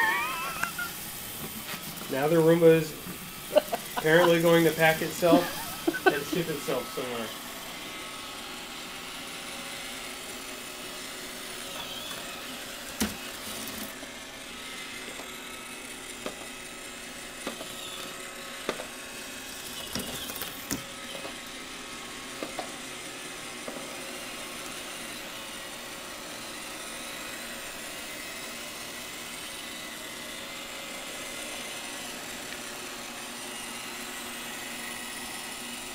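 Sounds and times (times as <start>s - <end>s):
robot vacuum whirring: 0.0s - 35.9s.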